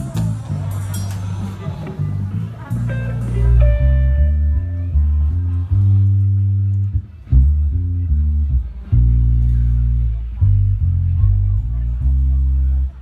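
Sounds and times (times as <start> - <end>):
bass guitar low notes: 0.0 - 13.0.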